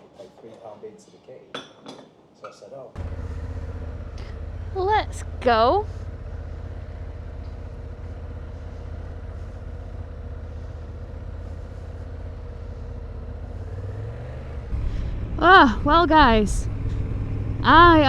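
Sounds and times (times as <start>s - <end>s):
motorcycle engine rumbling: 3.0s - 18.0s.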